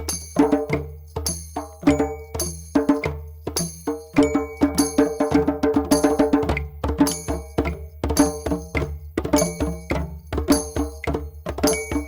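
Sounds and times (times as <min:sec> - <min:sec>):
drums playing: 0:00.0 - 0:12.0.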